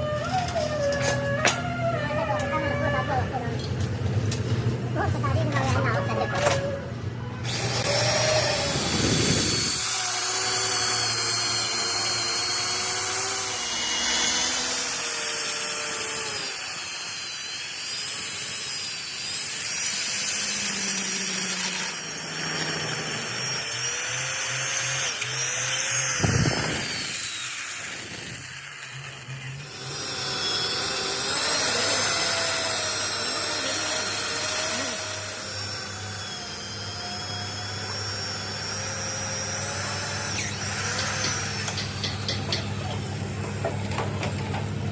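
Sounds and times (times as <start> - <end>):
electric power tool whining on steel: 0.0 - 44.9.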